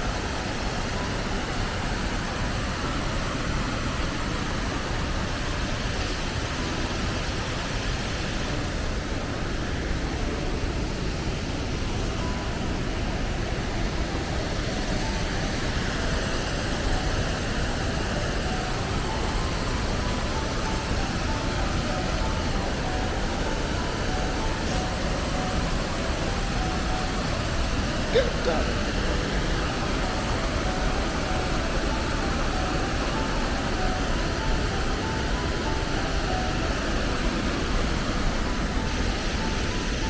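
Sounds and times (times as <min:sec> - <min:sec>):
fast-flowing creek rushing: 0:00.0 - 0:40.0.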